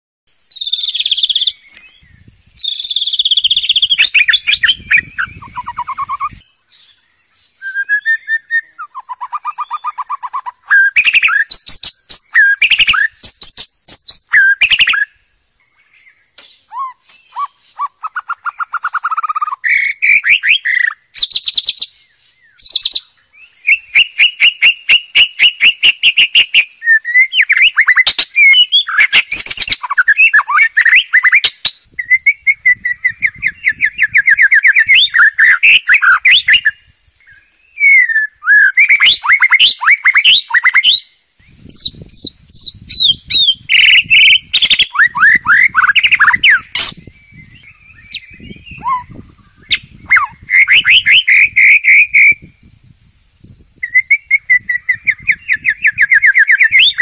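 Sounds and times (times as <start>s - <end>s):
bird singing whistles and trills: 0.3s - 57.0s.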